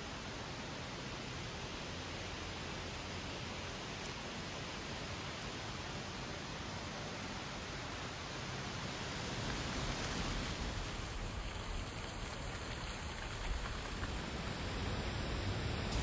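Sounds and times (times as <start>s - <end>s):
low wind rumble: 1.1s - 16.0s.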